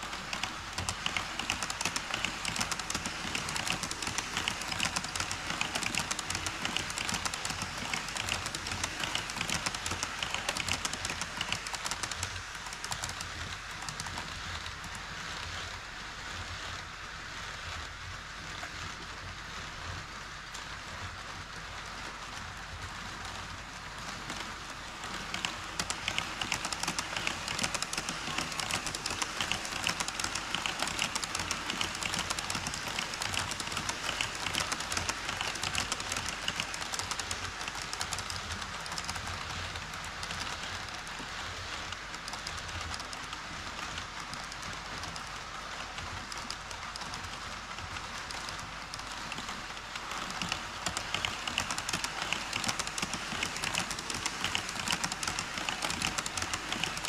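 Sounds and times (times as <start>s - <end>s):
model train wheels clattering on rails: 0.0s - 16.8s, 20.6s - 57.0s.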